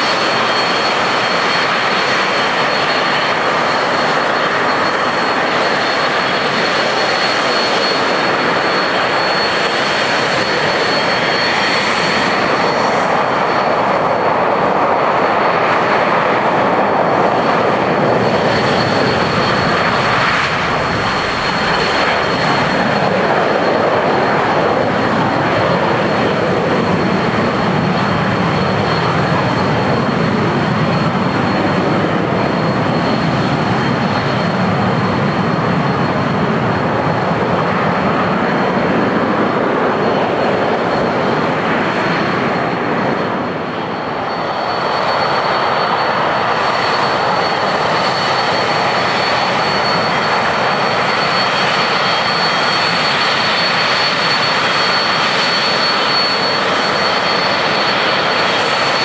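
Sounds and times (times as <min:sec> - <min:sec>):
high whine: 0:00.0 - 0:59.0
jet engine roaring: 0:00.0 - 0:59.0.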